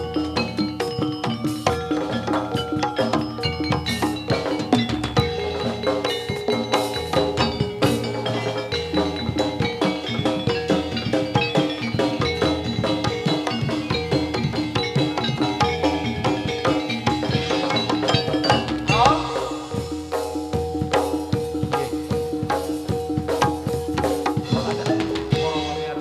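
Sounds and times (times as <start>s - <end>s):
hand drums beating: 0.0s - 26.0s
ringing metallophones: 0.0s - 26.0s.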